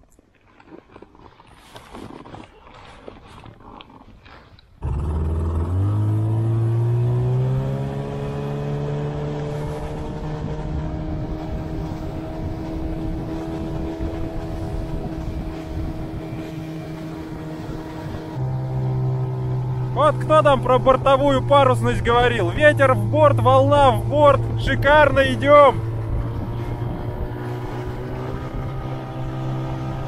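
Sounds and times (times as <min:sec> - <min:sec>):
outboard motor running: 0:04.8 - 0:30.0
rushing water and wind: 0:05.5 - 0:30.0.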